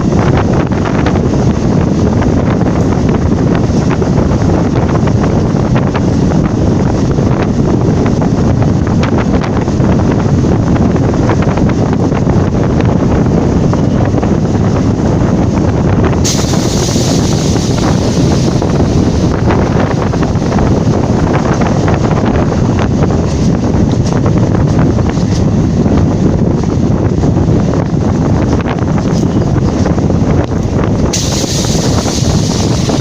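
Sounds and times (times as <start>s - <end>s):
moving train rushing: 0.0s - 33.0s
wind buffeting microphone: 0.0s - 33.0s.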